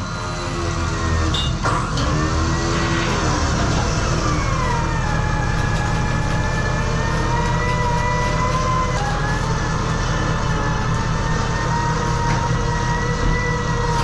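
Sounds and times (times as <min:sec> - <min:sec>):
thin whine: 0:00.0 - 0:14.0
truck engine running under load: 0:00.0 - 0:14.0.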